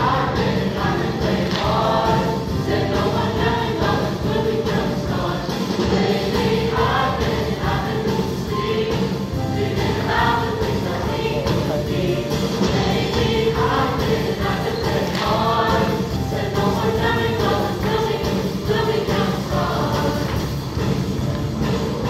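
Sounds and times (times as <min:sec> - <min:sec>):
instrumental accompaniment: 0:00.0 - 0:22.0
mixed choir singing: 0:00.0 - 0:22.0.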